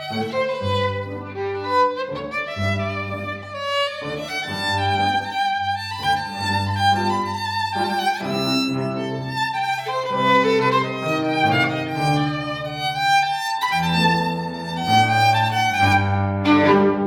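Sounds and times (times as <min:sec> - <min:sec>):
piano: 0:00.0 - 0:17.0
violin melody: 0:00.0 - 0:17.0.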